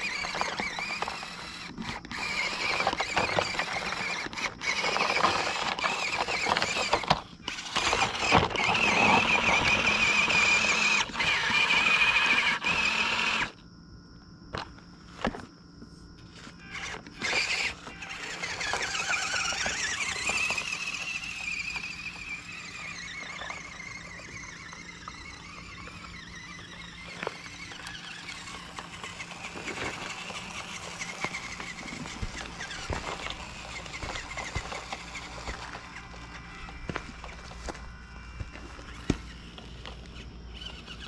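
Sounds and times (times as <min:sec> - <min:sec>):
electric motor whining: 0:00.0 - 0:13.6, 0:16.2 - 0:41.0
tyres crunching over gravel: 0:00.0 - 0:13.6, 0:14.5 - 0:41.0.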